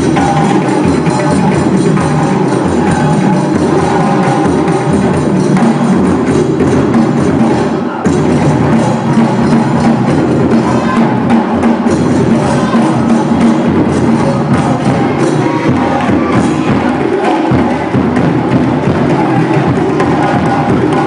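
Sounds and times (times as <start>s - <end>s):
percussion-driven music: 0.0s - 21.0s.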